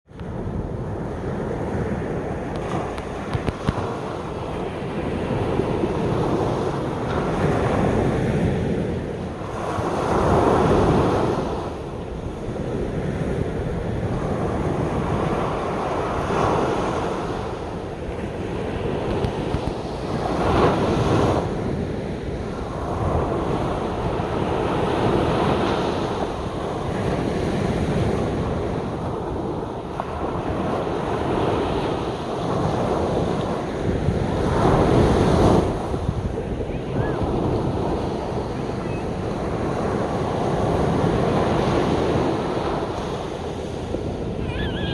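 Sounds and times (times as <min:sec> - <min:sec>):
wind buffeting microphone: 0:00.1 - 0:44.9
sea waves breaking on beach: 0:00.3 - 0:44.9.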